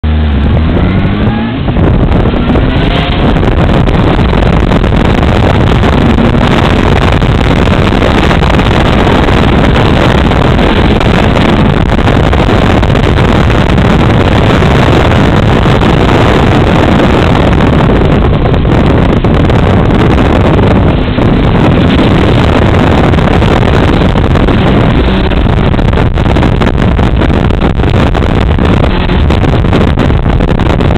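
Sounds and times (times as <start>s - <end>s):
motorcycle engine accelerating: 0.0s - 30.9s
wind rush over microphone: 0.0s - 30.9s.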